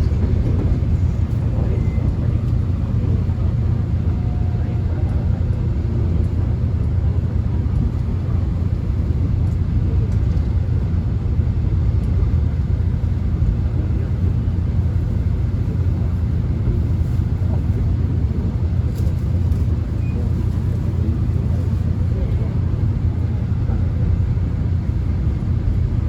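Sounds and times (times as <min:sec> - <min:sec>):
subway train running: 0:00.0 - 0:26.0.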